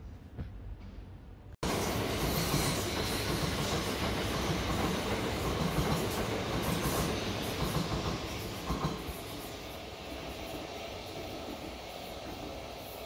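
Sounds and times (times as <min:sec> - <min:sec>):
train wheels running on rails: 0:00.5 - 0:13.0.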